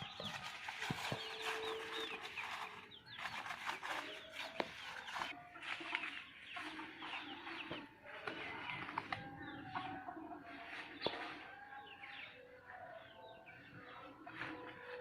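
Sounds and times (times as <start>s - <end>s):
hens clucking: 0.0s - 15.0s
small birds chirping: 0.0s - 15.0s.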